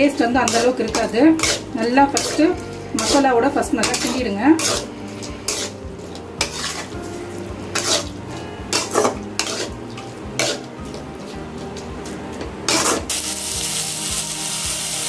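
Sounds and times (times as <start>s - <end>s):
metal spatula scraping metal pan: 0.0s - 11.8s, 12.7s - 13.2s
oil sizzling: 0.0s - 15.0s.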